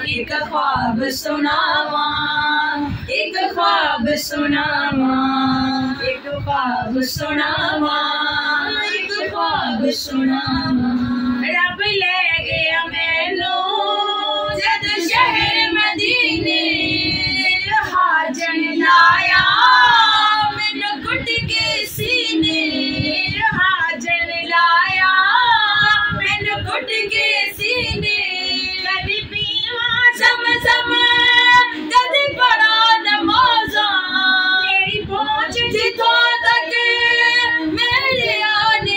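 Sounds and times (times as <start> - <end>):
women singing devotional song: 0.0 - 38.9.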